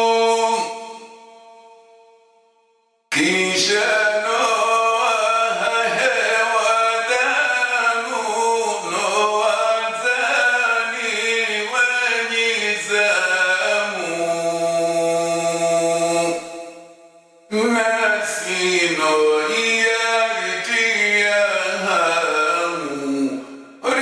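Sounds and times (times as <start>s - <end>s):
man chanting: 0.0s - 1.1s, 3.1s - 16.8s, 17.5s - 24.0s.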